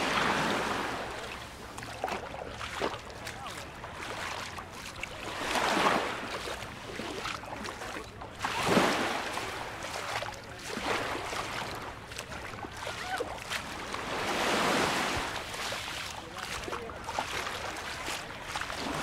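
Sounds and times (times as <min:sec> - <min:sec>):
small waves washing onto shore: 0:00.0 - 0:19.0.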